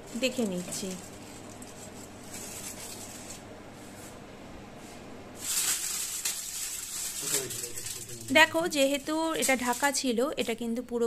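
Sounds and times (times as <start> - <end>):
aluminium foil crinkling: 0.0 - 3.5, 5.4 - 10.8
faint steady hum: 0.0 - 11.0.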